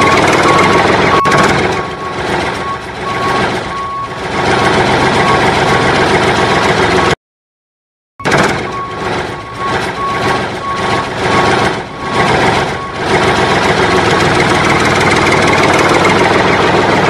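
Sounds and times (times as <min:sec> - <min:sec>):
reversing alarm beeping: 0:00.0 - 0:06.0, 0:08.2 - 0:16.3
heavy truck engine running: 0:00.0 - 0:07.2, 0:08.2 - 0:17.0.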